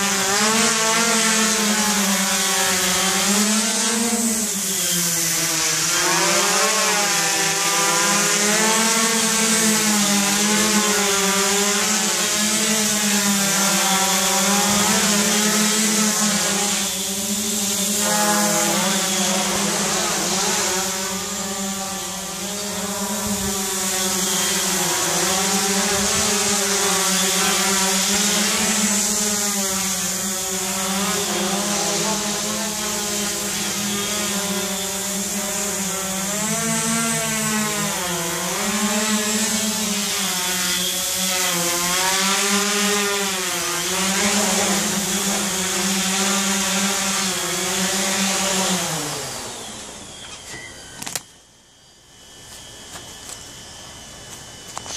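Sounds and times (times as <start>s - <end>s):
drone propellers buzzing: 0.0s - 54.9s.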